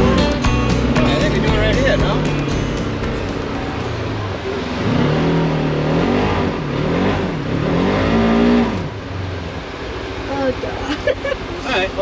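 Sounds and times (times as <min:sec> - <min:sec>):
side-by-side engine revving: 0:00.0 - 0:11.0.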